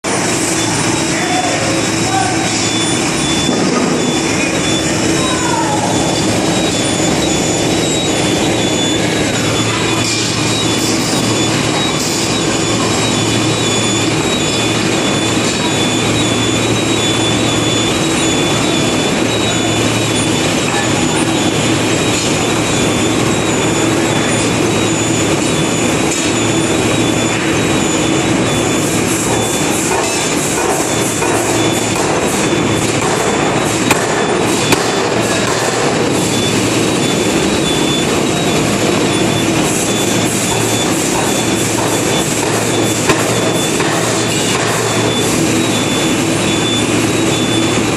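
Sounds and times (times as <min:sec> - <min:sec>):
furnace burner roar: 0:00.0 - 0:47.9
high whine: 0:00.0 - 0:47.9.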